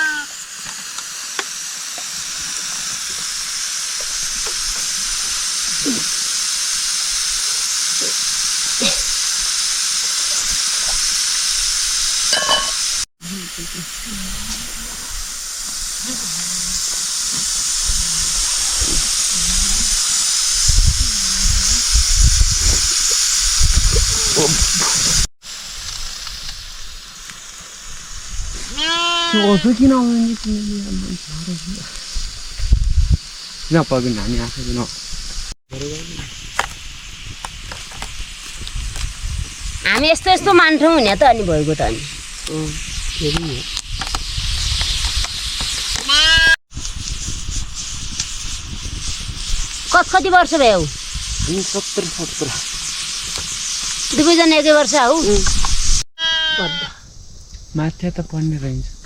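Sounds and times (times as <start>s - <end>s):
food sizzling in a hot pan: 0.0s - 56.6s.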